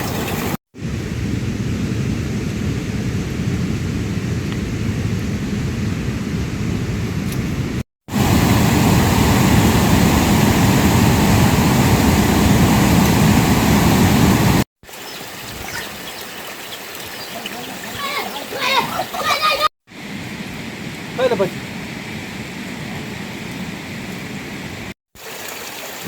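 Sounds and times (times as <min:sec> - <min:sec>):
heavy rain rushing: 0:00.0 - 0:26.0.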